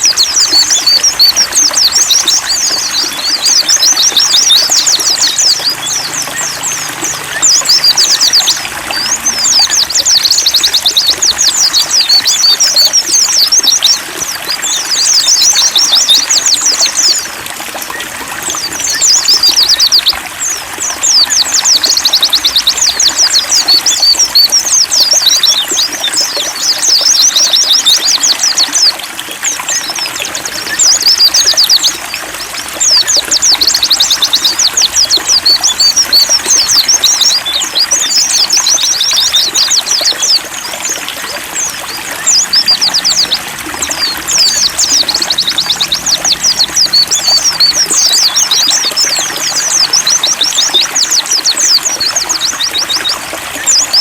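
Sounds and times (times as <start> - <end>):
birds twittering: 0.0 - 54.0
trickling water: 0.0 - 54.0.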